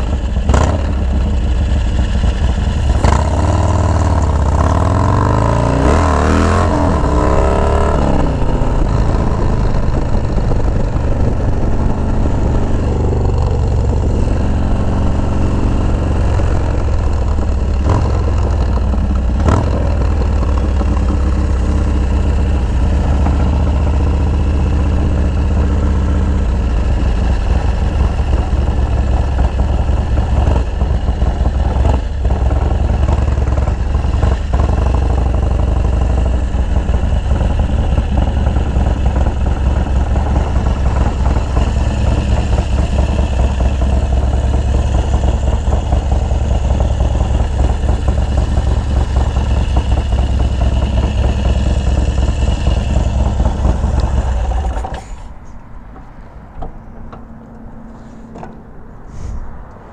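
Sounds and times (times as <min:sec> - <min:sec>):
motorcycle engine running low: 0:00.0 - 0:57.8.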